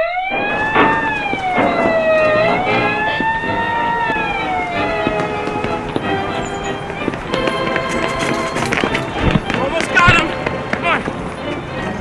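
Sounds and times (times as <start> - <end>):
police siren wailing: 0.0 - 11.9
faint knocks: 0.1 - 11.2.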